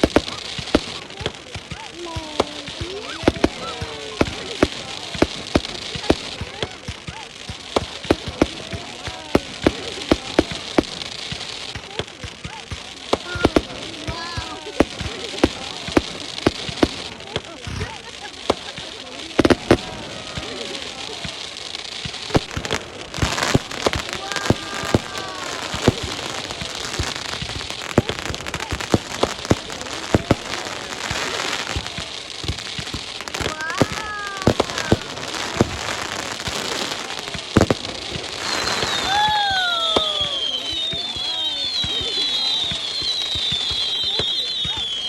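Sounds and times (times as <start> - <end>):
crackling hiss: 0.0 - 45.0
fireworks bangs and pops: 0.0 - 45.0.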